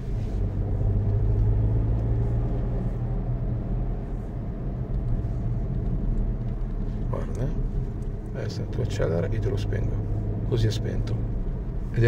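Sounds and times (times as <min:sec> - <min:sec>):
car engine pulling steadily: 0:00.0 - 0:12.0
tyre and road noise: 0:00.0 - 0:12.0.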